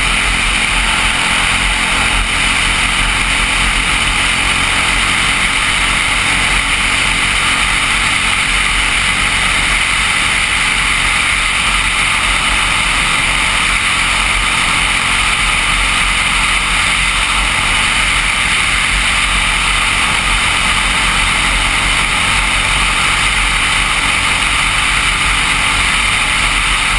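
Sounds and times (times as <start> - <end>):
kart engine running: 0.0 - 26.9.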